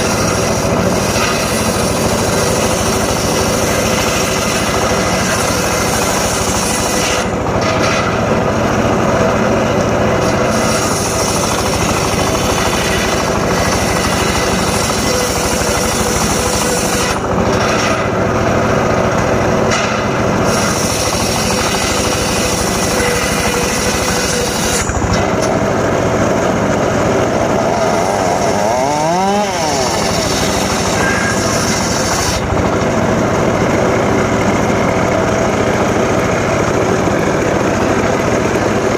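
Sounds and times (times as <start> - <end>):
engine-driven circular saw cutting wood: 0.0 - 38.9.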